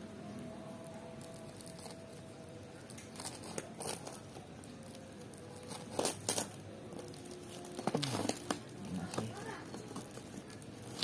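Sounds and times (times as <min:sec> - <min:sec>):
packing tape crinkling: 0:00.8 - 0:11.0.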